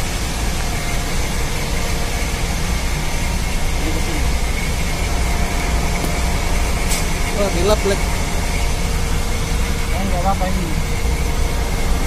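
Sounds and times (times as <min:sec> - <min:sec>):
engine room machinery hum: 0:00.0 - 0:12.0
faint steady whine: 0:00.0 - 0:12.0.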